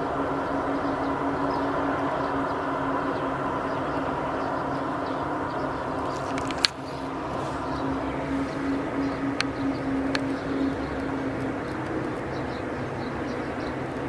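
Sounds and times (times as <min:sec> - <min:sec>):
droning hum over rumble: 0:00.0 - 0:14.0.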